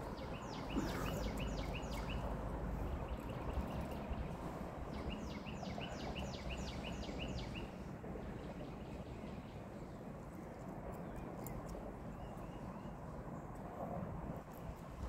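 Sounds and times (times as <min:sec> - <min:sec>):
songbird singing: 0:00.0 - 0:10.0, 0:10.9 - 0:13.1
low background noise: 0:00.0 - 0:15.0.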